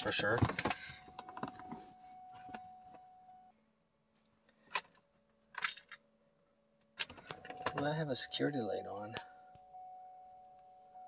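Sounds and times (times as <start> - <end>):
faint steady tone: 0.0 - 11.0.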